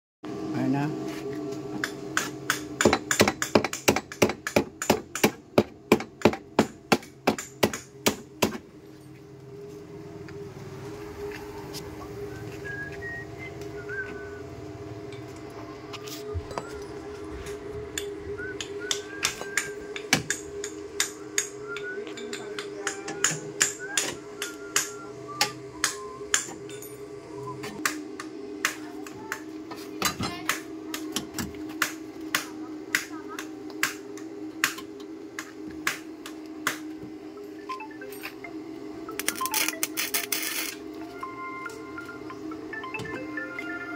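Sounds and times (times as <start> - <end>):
steady hum: 0.3 - 43.9.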